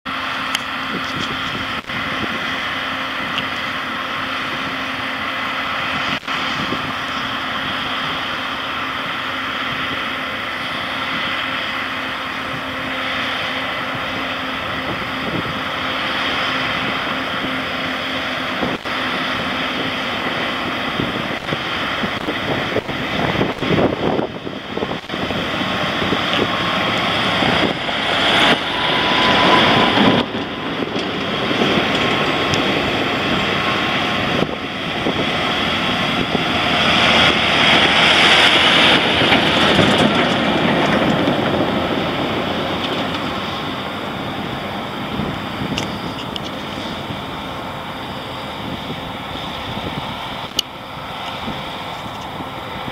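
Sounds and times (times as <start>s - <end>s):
tractor diesel engines droning: 0.0s - 52.9s
wind buffeting microphone: 0.1s - 52.9s.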